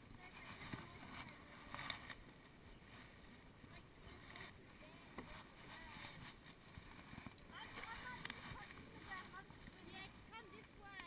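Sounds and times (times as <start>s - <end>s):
paddle dipping and dripping water: 0.0s - 11.0s.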